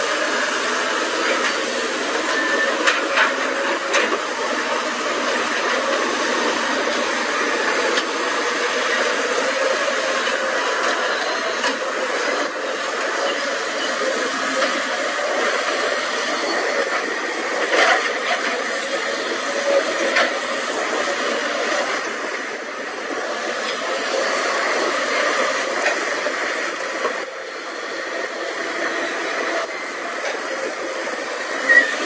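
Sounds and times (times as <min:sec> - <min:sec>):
excavator engines and hydraulics whirring: 0:00.0 - 0:32.0.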